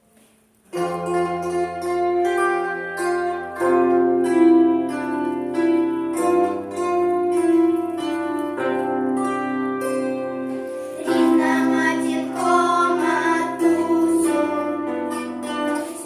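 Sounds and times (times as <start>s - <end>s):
instrumental chords with plucked notes: 0.6s - 16.0s.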